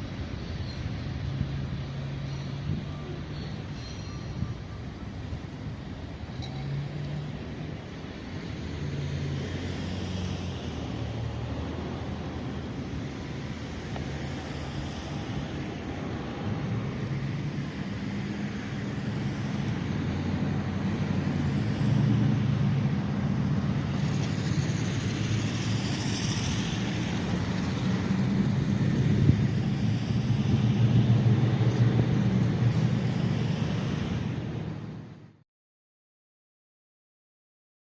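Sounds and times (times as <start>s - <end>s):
freight train rumbling past: 0.0s - 35.4s.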